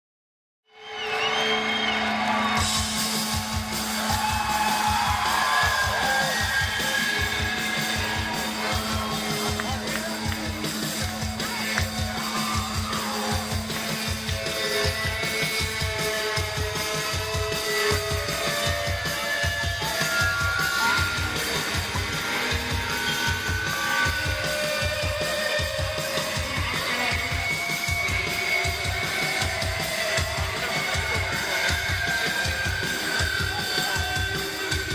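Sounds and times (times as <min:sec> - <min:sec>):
live rock band playing: 0:00.8 - 0:34.9.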